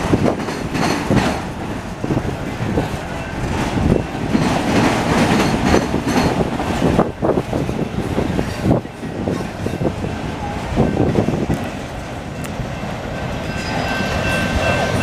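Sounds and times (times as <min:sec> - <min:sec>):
train rumbling: 0:00.0 - 0:15.0
train wheels clattering over rail joints: 0:00.0 - 0:15.0.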